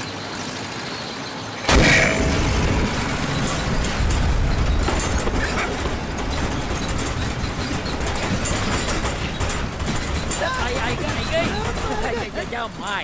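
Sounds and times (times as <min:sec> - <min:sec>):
road roller engine rumbling: 0:00.0 - 0:13.0.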